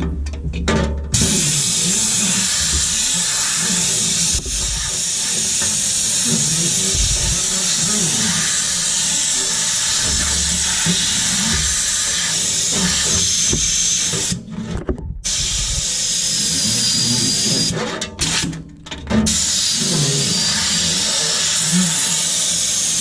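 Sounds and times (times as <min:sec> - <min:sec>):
compressed air hissing: 0:01.2 - 0:14.4, 0:15.2 - 0:17.7, 0:19.3 - 0:23.0.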